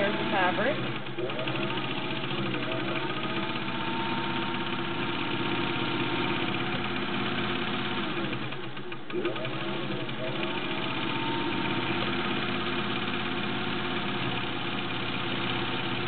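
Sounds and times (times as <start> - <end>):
sewing machine running: 0.0 - 16.0.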